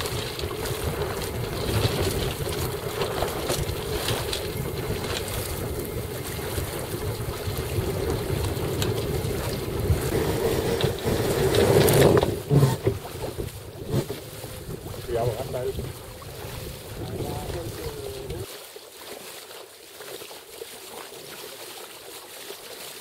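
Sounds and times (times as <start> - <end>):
wind buffeting microphone: 0.0 - 18.5.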